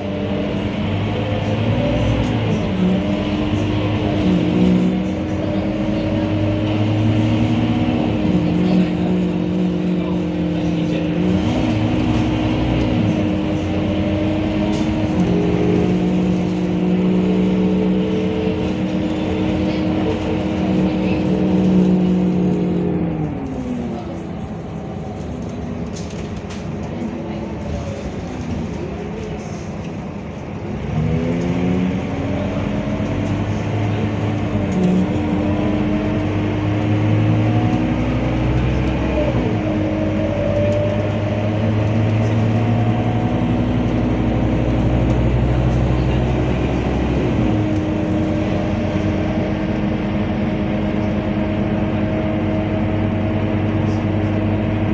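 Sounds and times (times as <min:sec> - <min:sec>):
bus diesel engine: 0:00.0 - 0:54.9.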